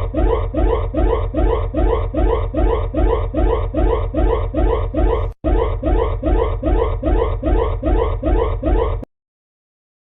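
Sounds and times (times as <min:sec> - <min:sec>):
alert alarm sweeping tone: 0:00.0 - 0:09.1.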